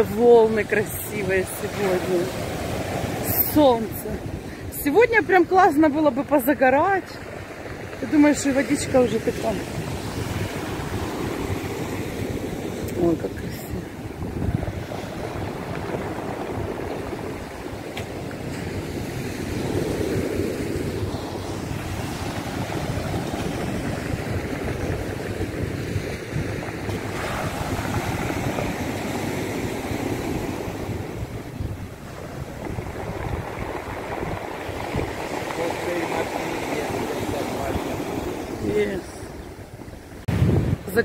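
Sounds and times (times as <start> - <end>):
waves washing over pebbles: 0.0 - 41.0
wind on microphone: 0.0 - 41.0.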